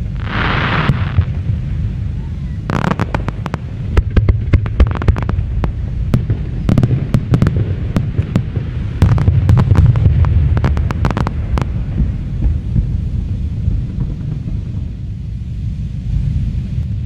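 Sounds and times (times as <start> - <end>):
fireworks bangs and crackles: 0.0 - 17.0
low rumble: 0.0 - 17.0.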